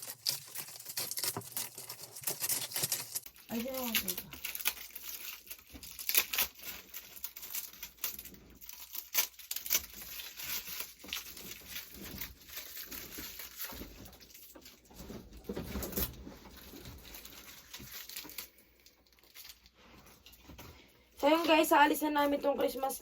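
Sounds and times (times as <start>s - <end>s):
string lights crinkling and snapping: 0.0s - 23.0s.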